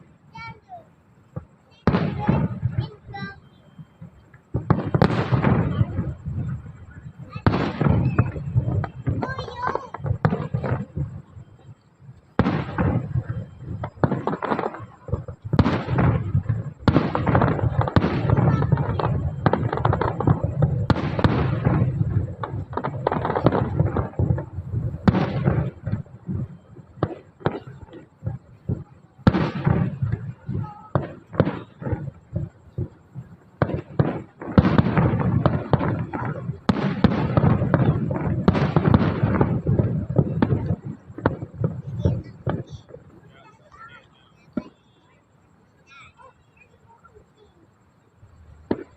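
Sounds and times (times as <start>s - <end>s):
fireworks bangs: 0.0s - 48.9s.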